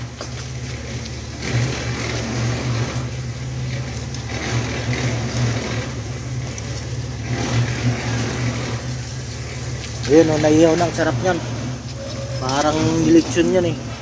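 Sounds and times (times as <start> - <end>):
low motor hum: 0.0 - 14.0
rough noise: 0.0 - 14.0.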